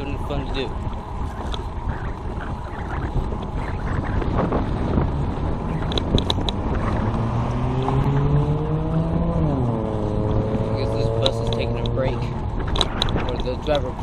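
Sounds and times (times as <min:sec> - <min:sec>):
road rumble: 0:00.0 - 0:14.0
wind on microphone: 0:00.0 - 0:14.0.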